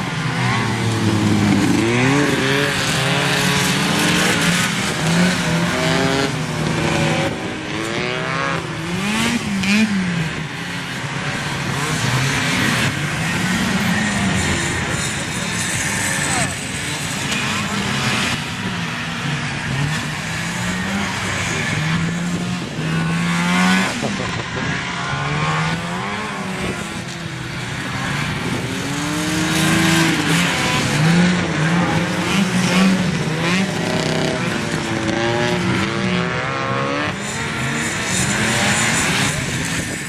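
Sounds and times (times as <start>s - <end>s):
snowmobile engines revving: 0.0s - 40.0s.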